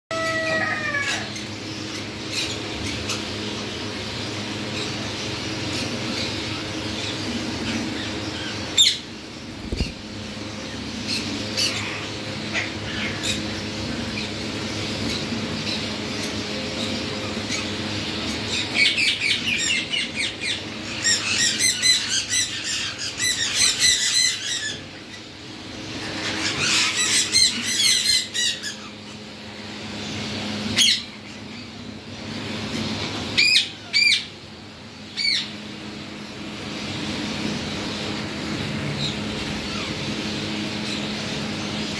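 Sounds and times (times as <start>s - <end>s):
parakeets calling: 0.1s - 41.9s
steady low hum: 0.2s - 41.9s.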